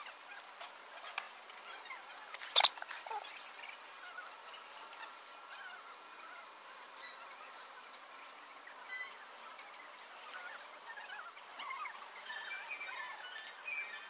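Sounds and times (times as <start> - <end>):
squeaky chirping noises: 0.0 - 14.0.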